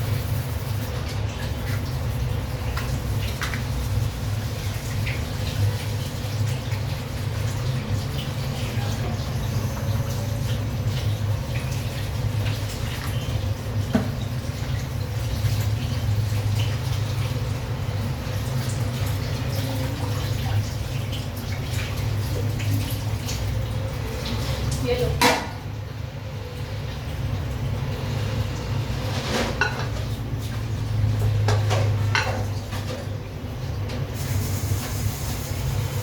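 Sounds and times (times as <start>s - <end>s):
water running from tap: 0.0s - 36.0s.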